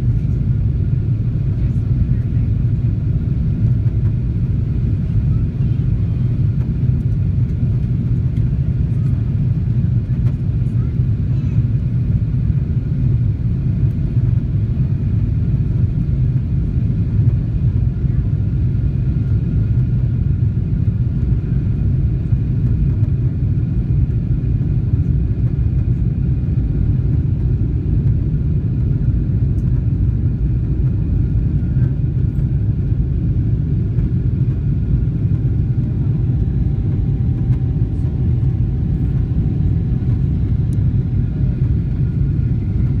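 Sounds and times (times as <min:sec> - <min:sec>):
jet engine cabin rumble: 0:00.0 - 0:43.0.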